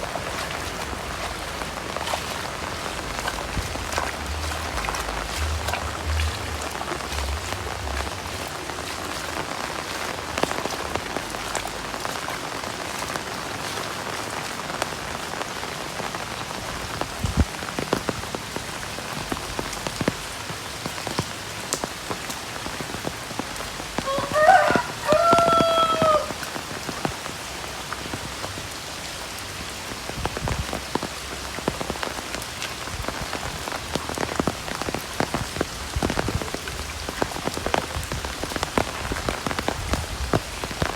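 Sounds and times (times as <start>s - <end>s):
drips and splashes: 0.0s - 40.9s
heavy rain: 0.0s - 40.9s.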